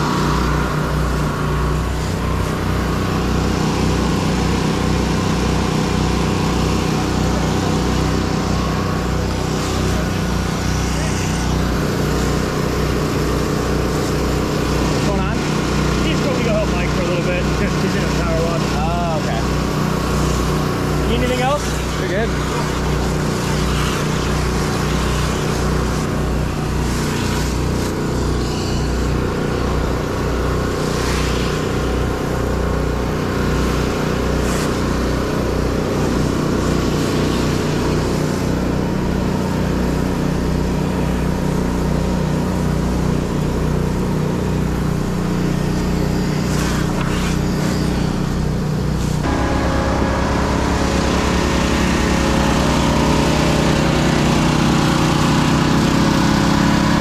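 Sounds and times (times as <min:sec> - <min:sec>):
pressure washer engine running: 0:00.0 - 0:57.0
water spray hissing on wood: 0:00.0 - 0:57.0.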